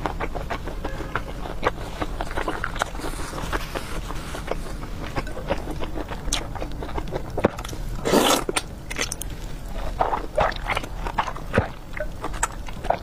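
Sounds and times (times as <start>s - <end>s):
person chewing and biting: 0.0s - 13.0s.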